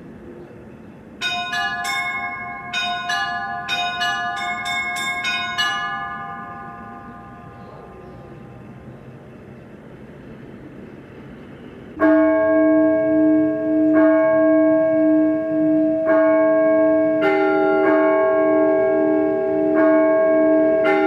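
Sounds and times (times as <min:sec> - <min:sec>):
church bells ringing: 0:00.0 - 0:09.2, 0:12.0 - 0:21.0
background noise: 0:00.0 - 0:21.0.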